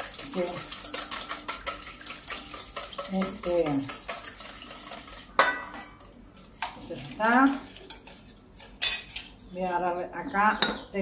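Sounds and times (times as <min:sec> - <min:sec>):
wire whisk beating in metal bowl: 0:00.0 - 0:09.1.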